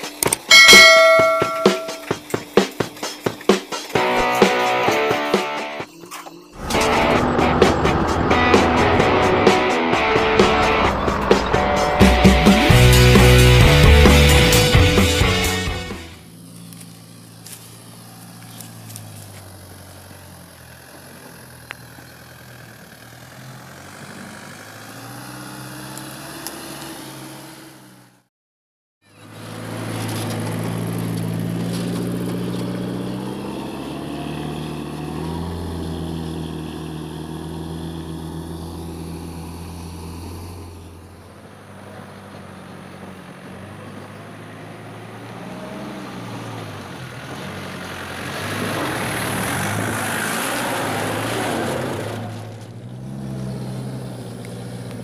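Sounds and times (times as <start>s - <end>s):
truck engine running under load: 6.6s - 14.9s, 16.2s - 28.3s, 29.2s - 55.0s.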